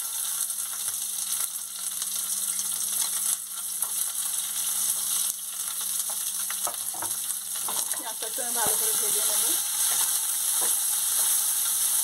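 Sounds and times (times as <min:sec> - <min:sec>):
onion frying in hot oil: 0:00.0 - 0:12.0.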